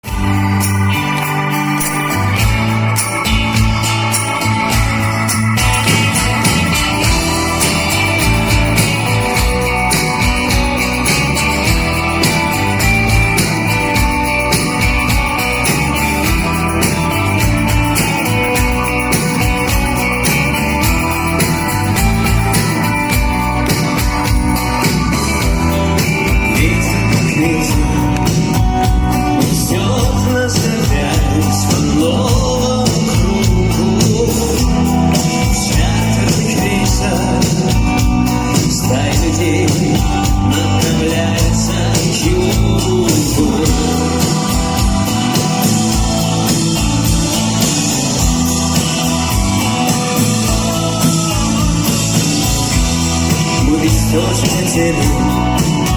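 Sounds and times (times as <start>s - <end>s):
person singing: 0.0s - 55.9s
rock band playing: 0.0s - 55.9s.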